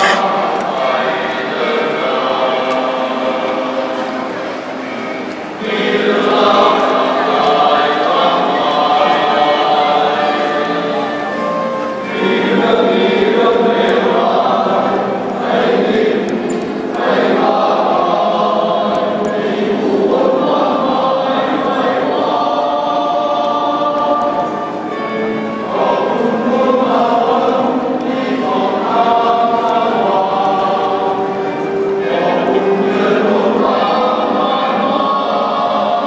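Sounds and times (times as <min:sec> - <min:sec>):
men's choir singing in harmony: 0:00.0 - 0:36.0.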